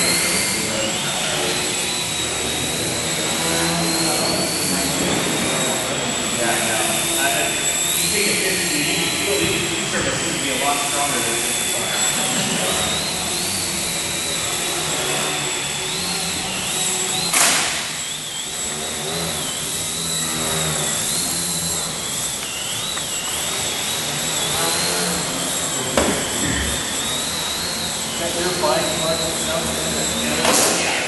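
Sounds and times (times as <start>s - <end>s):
model airplane motor whine: 0.0s - 31.0s.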